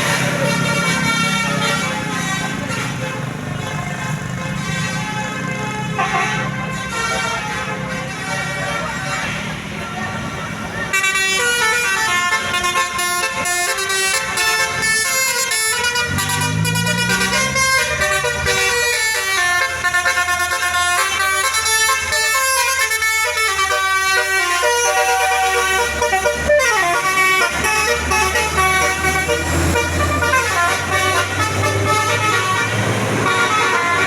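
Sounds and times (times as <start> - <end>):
multi-tone air horns playing tune: 0.0 - 9.8, 10.8 - 34.0
bus engine running: 0.0 - 34.0.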